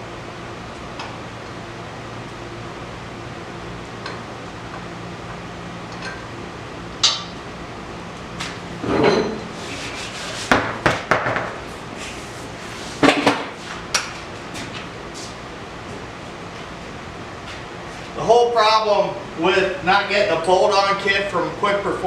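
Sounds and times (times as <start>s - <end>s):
steady fan hum: 0.0s - 22.0s.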